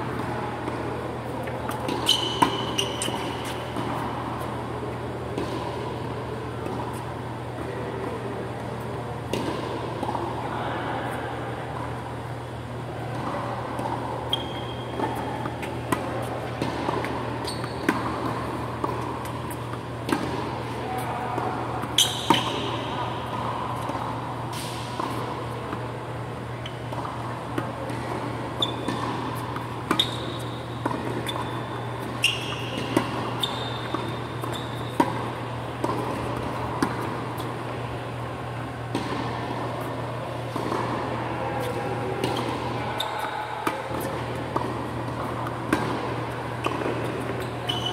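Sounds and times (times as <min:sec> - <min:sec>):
tennis balls struck and bouncing: 0:00.1 - 0:10.4, 0:11.7 - 0:47.9.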